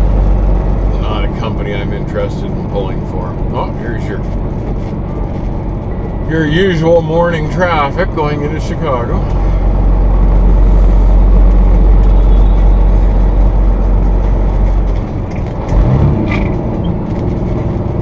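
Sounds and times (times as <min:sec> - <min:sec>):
truck engine and road drone: 0:00.0 - 0:18.0.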